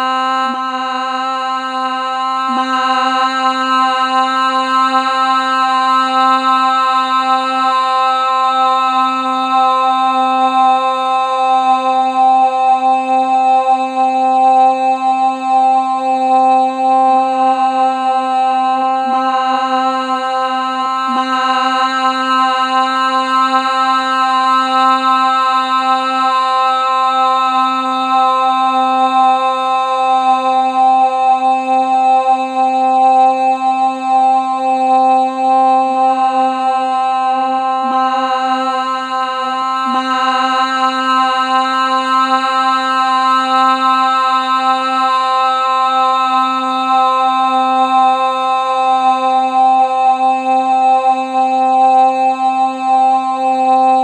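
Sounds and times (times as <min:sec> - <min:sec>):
person singing long held note: 0:00.0 - 0:54.0.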